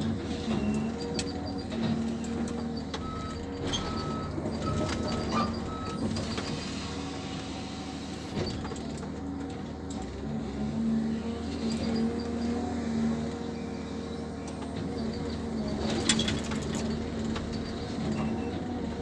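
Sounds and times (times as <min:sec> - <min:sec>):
harvester engine and hydraulics: 0:00.0 - 0:19.0.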